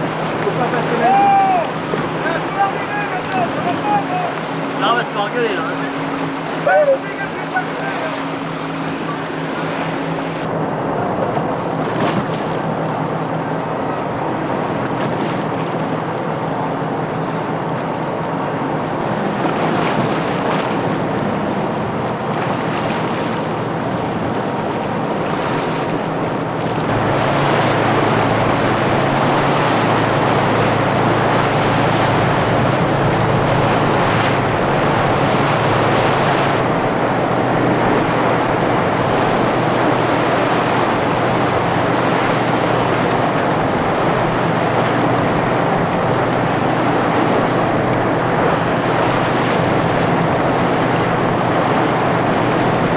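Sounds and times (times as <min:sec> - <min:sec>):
boat engine droning: 0:00.0 - 0:52.9
sea water rushing and splashing: 0:00.0 - 0:52.9
wind: 0:00.0 - 0:52.9.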